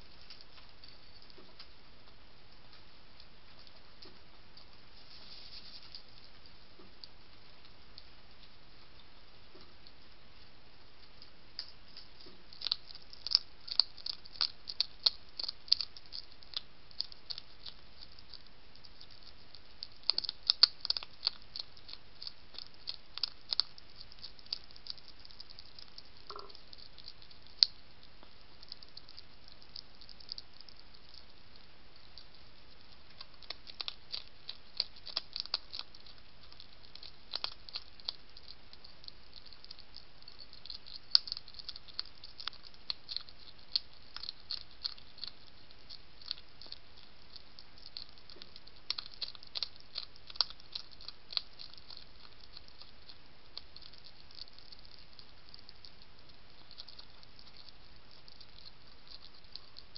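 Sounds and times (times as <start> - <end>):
hedgehog crunching kibble: 0.0 - 59.9
steady background hiss: 0.0 - 59.9.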